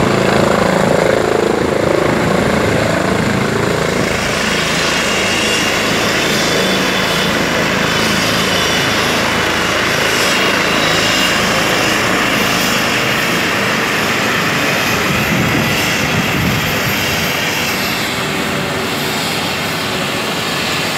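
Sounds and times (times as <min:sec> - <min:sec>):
helicopter rotor wash: 0:00.0 - 0:20.9
helicopter turbine whine: 0:00.0 - 0:20.9.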